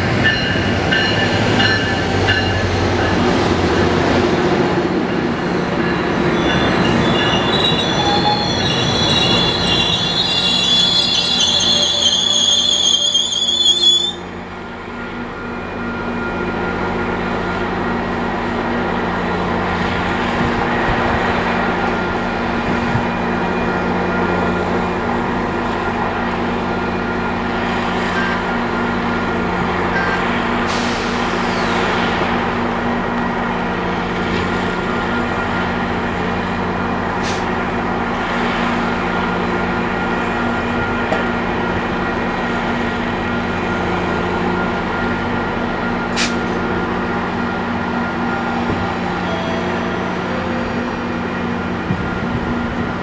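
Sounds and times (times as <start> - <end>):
train engine humming: 0.0 - 53.0.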